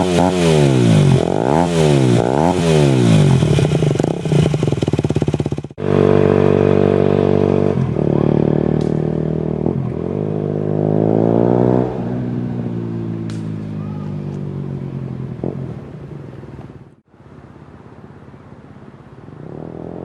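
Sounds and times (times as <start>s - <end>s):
motorcycle engine revving: 0.0s - 17.1s, 19.3s - 20.0s.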